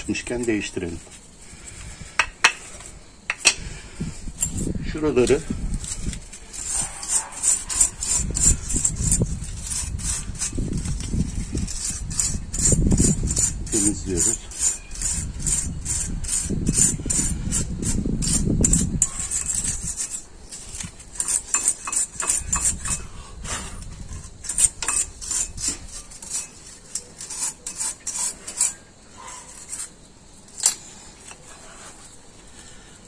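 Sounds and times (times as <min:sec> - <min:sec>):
wire brush scrubbing metal: 0:04.3 - 0:32.2.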